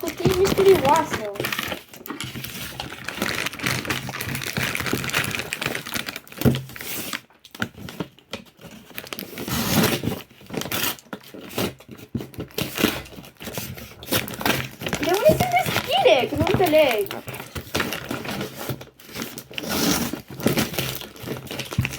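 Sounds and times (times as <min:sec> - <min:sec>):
cardboard box ripping and crinkling: 0:00.0 - 0:07.2, 0:08.0 - 0:21.9.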